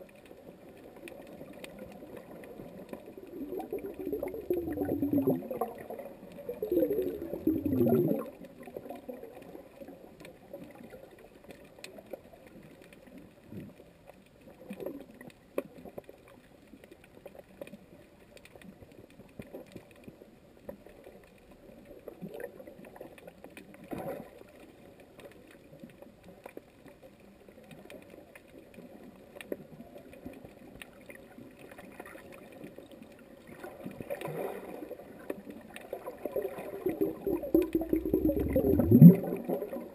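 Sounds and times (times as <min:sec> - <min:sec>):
faint underwater clicks: 0:00.0 - 0:39.9
muffled underwater wash: 0:00.0 - 0:39.9.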